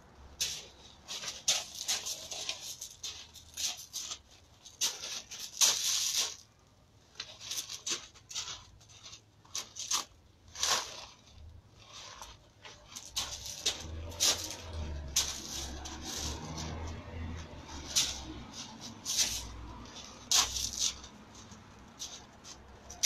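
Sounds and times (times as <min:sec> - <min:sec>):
feet shuffling on gravel: 0:00.4 - 0:06.5, 0:07.2 - 0:23.0.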